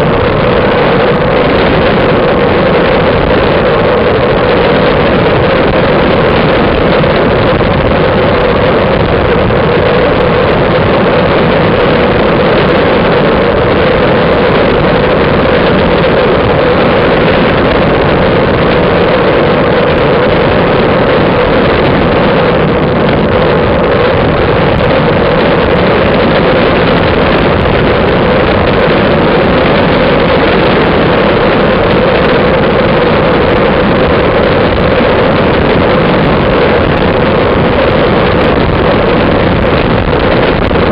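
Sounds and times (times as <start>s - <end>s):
bike tyres humming on asphalt: 0.0s - 40.9s
wind buffeting microphone: 0.0s - 40.9s.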